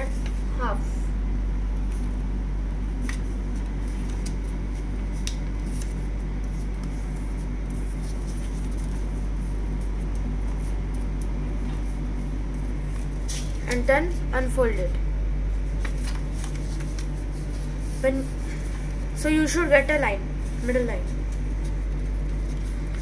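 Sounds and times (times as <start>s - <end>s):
steady low hum: 0.0s - 23.0s
paper crackling as folded: 2.8s - 13.9s, 14.8s - 23.0s.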